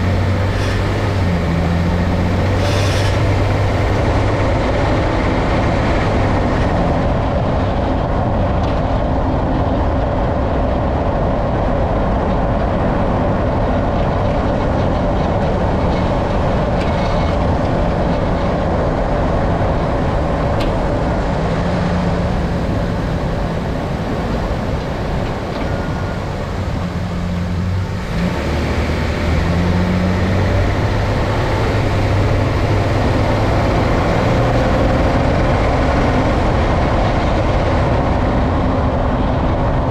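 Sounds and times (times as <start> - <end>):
pickup truck driving: 0.0 - 39.9
road and engine noise: 0.0 - 39.9.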